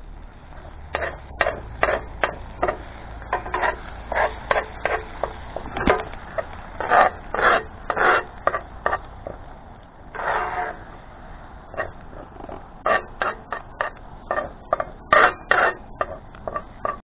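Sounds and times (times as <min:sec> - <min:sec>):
metal spatula scraping a skillet: 0:00.5 - 0:09.4, 0:10.1 - 0:10.9, 0:11.7 - 0:17.0.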